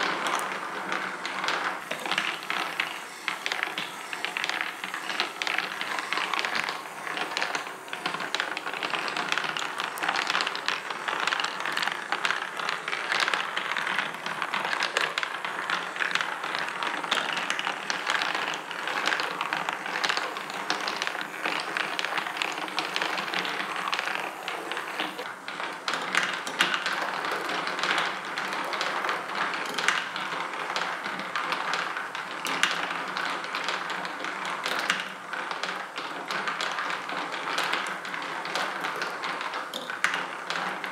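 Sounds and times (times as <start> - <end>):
marble lift clattering: 0.0 - 33.9
marbles rolling and clicking on tracks: 0.0 - 40.9.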